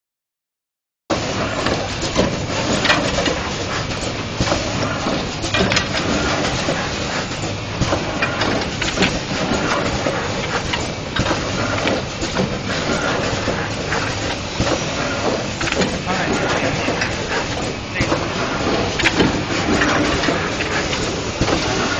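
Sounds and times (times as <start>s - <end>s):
machine clicks and knocks: 1.1s - 21.9s
printing machine clattering: 1.1s - 21.9s.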